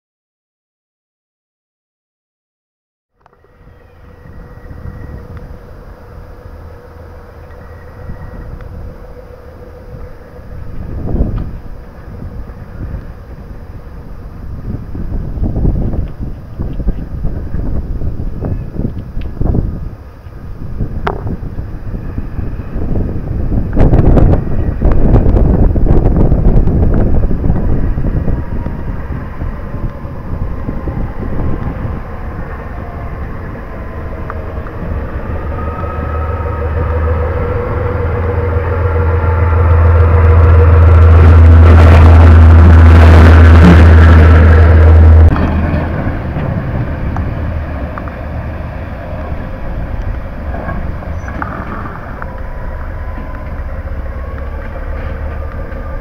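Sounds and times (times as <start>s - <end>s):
locomotive diesel engine drone: 3.1s - 56.0s
distant engine drone: 3.2s - 56.0s
wind buffeting microphone: 3.6s - 56.0s.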